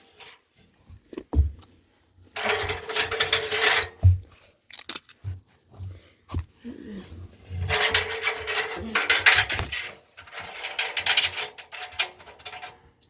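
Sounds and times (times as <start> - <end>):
scraping and rubbing: 0.0 - 12.9.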